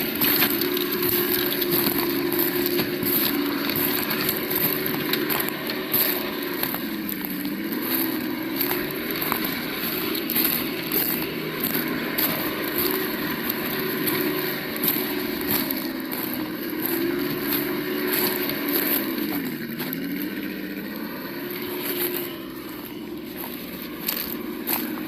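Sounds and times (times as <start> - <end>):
simulated engine from small speaker: 0.0 - 25.0.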